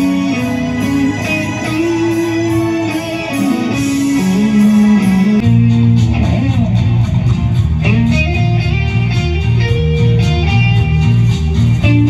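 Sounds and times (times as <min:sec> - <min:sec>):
bass line: 0:00.0 - 0:12.0
electric guitar melody: 0:00.0 - 0:12.0.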